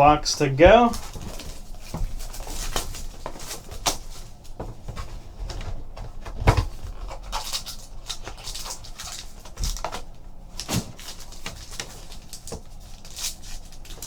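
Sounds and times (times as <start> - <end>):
card packs rustling: 0.0 - 14.0.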